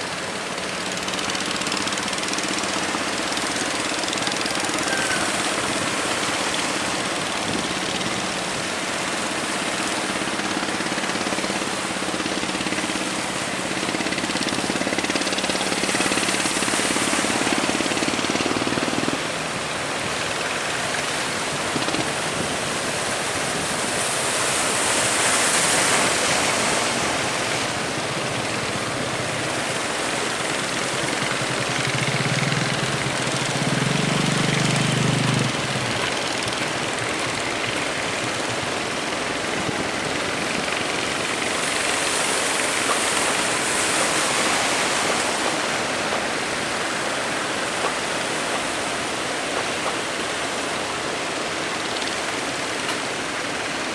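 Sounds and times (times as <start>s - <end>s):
boat engine humming: 0.0s - 53.9s
heavy waves: 0.0s - 53.9s
wind: 0.0s - 53.9s.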